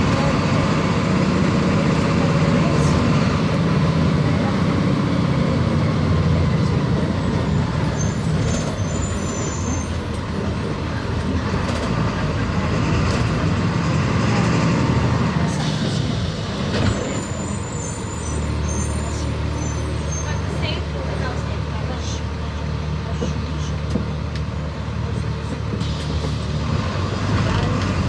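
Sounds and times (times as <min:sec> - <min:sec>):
diesel bus engine running: 0:00.0 - 0:28.0
road noise: 0:00.0 - 0:28.0.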